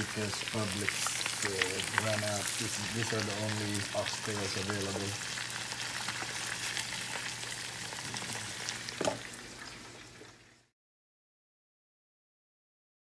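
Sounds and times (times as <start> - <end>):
meat sizzling in oil: 0.0 - 10.7.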